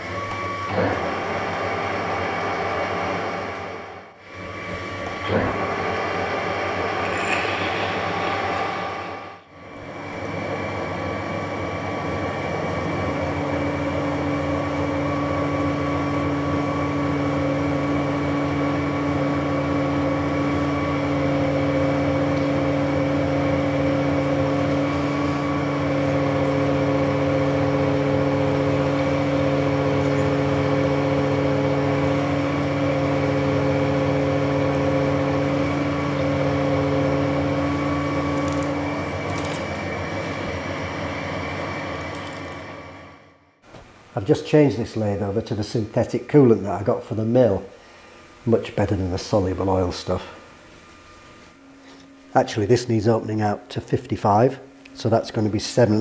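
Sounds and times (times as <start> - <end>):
lathe drilling metal hum: 0.0 - 56.0.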